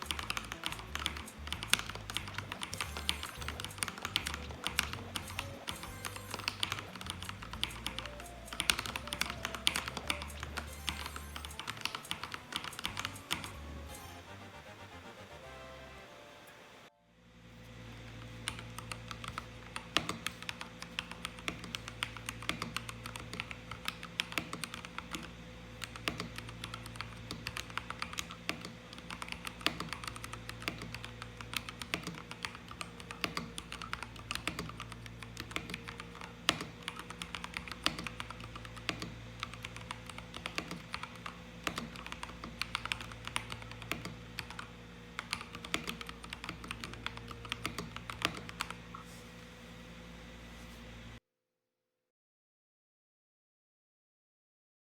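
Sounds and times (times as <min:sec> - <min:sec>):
mechanical keyboard typing: 0:00.0 - 0:14.2, 0:18.4 - 0:49.0.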